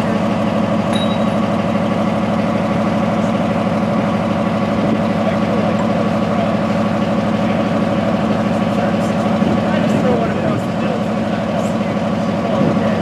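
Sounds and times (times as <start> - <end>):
crane engine running: 0.0 - 13.0.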